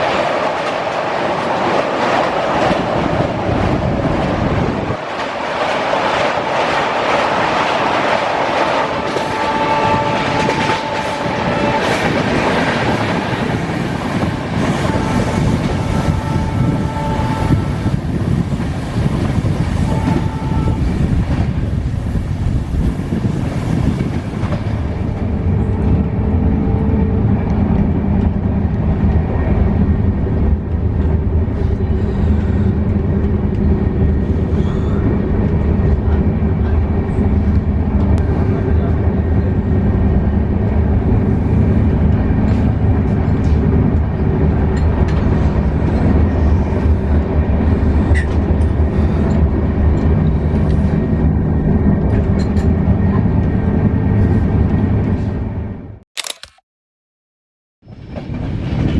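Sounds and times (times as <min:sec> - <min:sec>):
train rumbling on rails: 0:00.0 - 0:56.0, 0:57.8 - 0:58.9.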